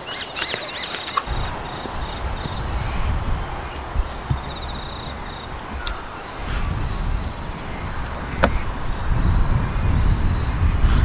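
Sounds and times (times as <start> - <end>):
low rumble on microphone: 1.3 - 11.0.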